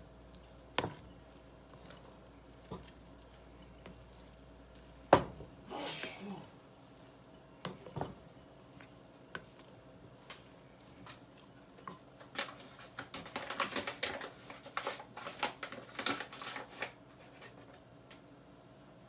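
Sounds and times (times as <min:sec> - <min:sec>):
spoon stirring and scraping dough: 0:00.0 - 0:17.7.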